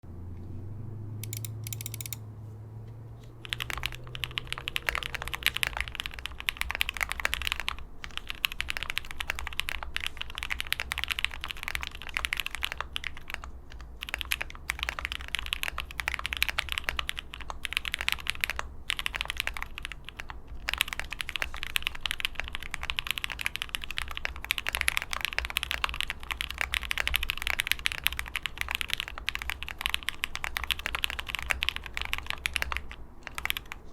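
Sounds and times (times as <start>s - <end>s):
typing on mechanical keyboard: 1.2s - 2.2s, 3.4s - 33.9s.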